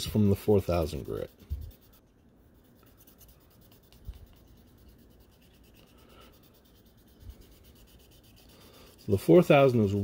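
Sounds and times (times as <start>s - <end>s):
sandpaper rubbing: 0.0s - 10.0s.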